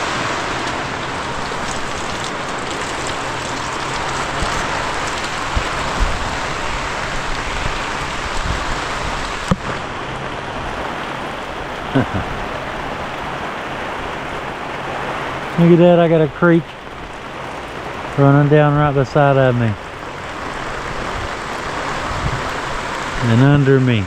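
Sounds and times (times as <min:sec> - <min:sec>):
torrential rain pouring: 0:00.0 - 0:24.0.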